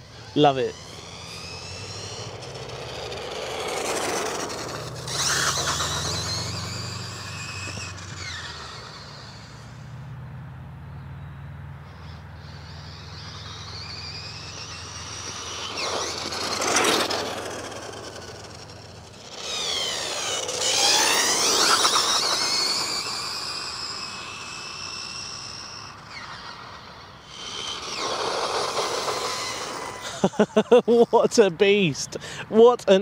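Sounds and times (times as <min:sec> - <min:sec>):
rc car motor whining: 0:00.0 - 0:10.2, 0:11.8 - 0:32.1.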